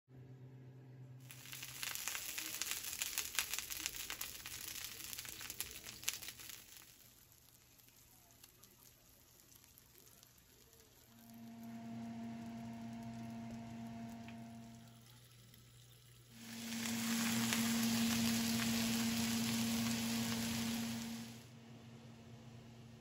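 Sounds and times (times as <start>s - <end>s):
patties sizzling in a skillet: 1.2s - 21.4s.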